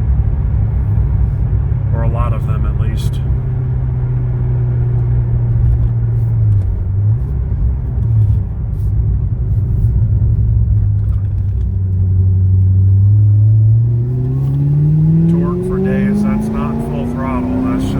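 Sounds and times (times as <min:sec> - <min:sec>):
car engine rumbling: 0:00.0 - 0:17.9.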